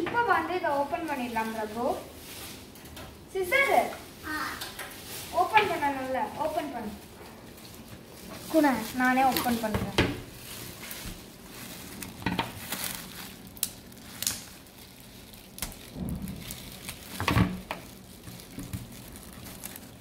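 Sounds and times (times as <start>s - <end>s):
plastic wrap crinkling: 0.0s - 20.0s.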